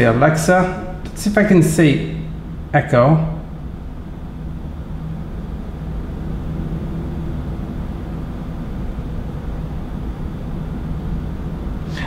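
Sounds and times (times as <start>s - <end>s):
faint hum: 0.0s - 12.0s
low background rumble: 0.0s - 12.0s.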